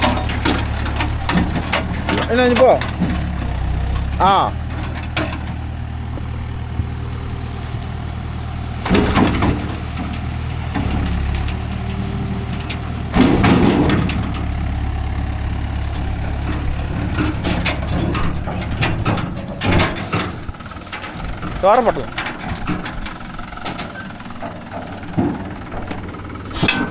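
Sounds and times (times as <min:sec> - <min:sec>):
clattering: 0:00.0 - 0:26.9
diesel engine idling: 0:00.0 - 0:26.9
loads crashing down: 0:00.0 - 0:26.9.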